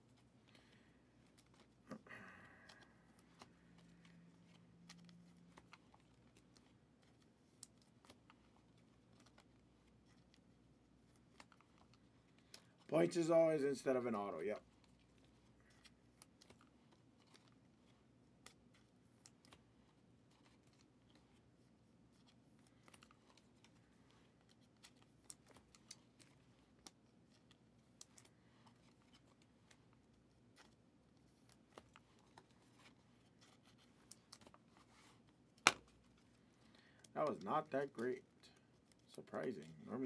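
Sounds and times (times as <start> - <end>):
trading cards being handled: 0.0 - 40.0.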